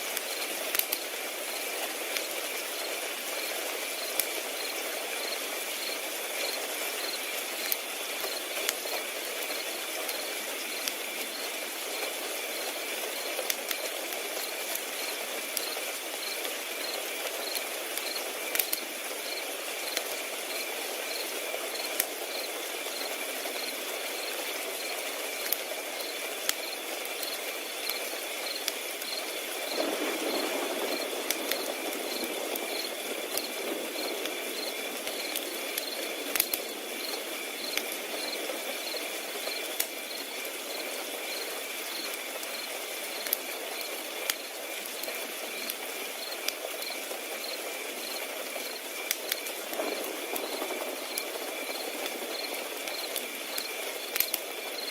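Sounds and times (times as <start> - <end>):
crackling wood fire: 0.0 - 54.9
crickets chirping: 0.2 - 54.9.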